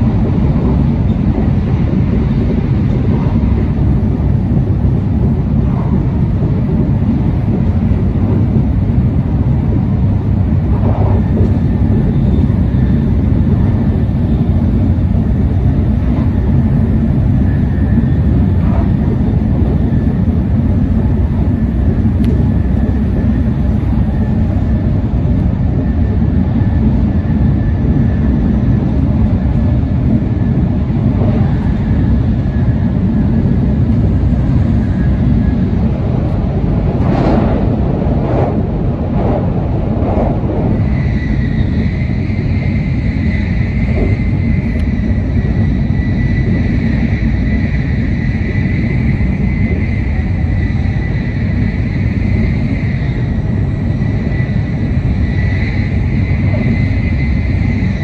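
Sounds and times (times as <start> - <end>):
train running low rumble: 0.0 - 58.0
faint high whine: 1.0 - 58.0.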